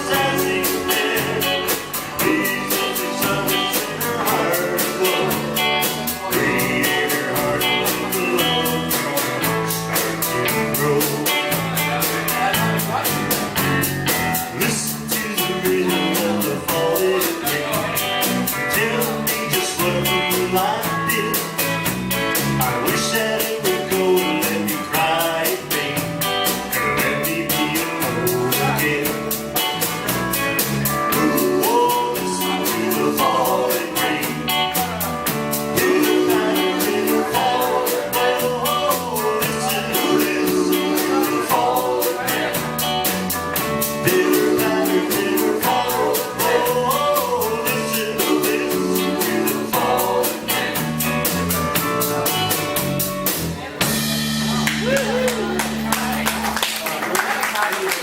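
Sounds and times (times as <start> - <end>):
person singing: 0.0 - 13.7, 14.4 - 21.7, 22.4 - 29.9, 30.6 - 51.1
steady drum beat: 0.0 - 56.6
band playing a song: 0.0 - 58.0.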